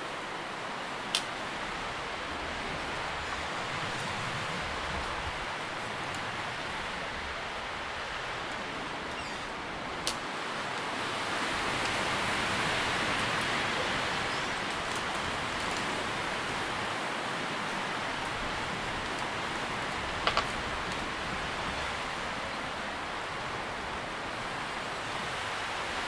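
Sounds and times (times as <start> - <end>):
wind rustling leaves: 0.0 - 26.0.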